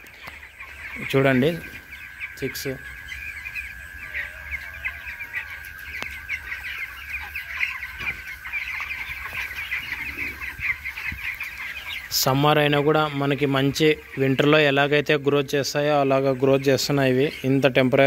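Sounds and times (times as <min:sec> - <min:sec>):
chicks cheeping: 0:00.0 - 0:18.0.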